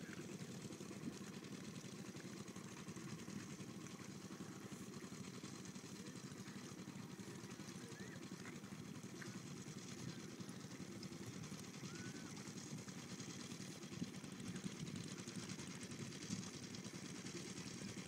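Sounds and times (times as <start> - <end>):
distant engine droning: 2.4 - 18.0.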